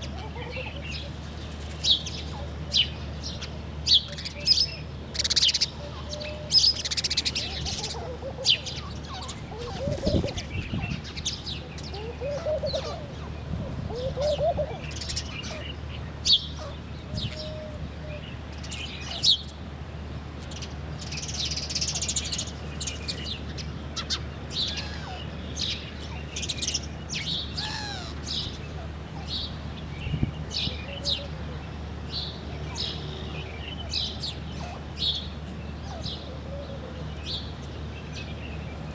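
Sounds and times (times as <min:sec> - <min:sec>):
birds chirping and trilling: 0:00.0 - 0:19.6, 0:20.4 - 0:38.9
lower slurred bird calls: 0:00.0 - 0:19.6, 0:20.4 - 0:38.9.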